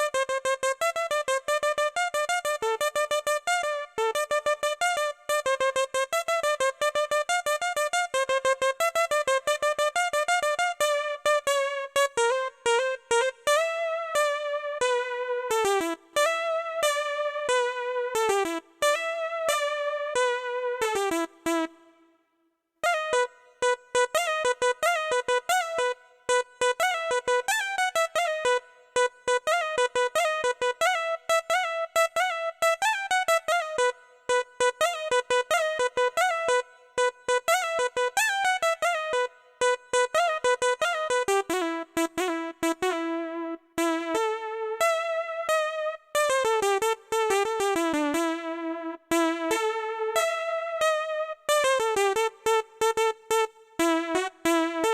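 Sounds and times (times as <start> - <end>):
electronic keyboard cumbia melody: 0.0 - 21.8, 22.8 - 54.9.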